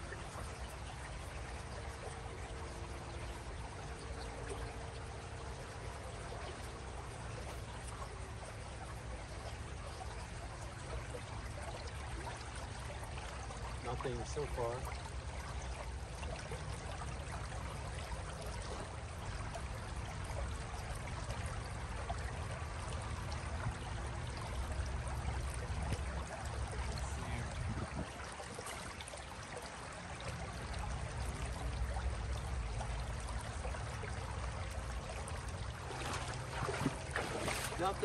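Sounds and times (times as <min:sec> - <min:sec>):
creek water rushing: 0:00.0 - 0:38.0
low rumble of water: 0:00.0 - 0:38.0.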